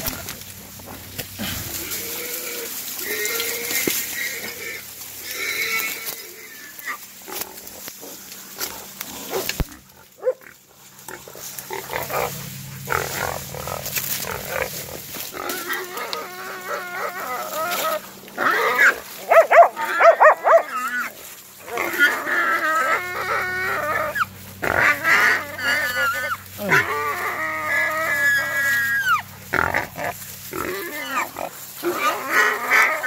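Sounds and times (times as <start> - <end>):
brush crackling and rustling: 0.0 - 33.0
wild boar squealing: 1.7 - 7.4, 8.0 - 33.0.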